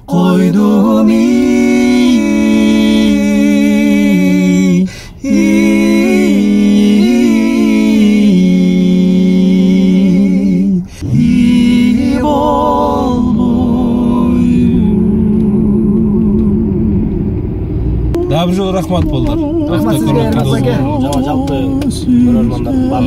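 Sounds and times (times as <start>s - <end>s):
two men singing in harmony: 0.0s - 16.9s, 19.3s - 23.0s.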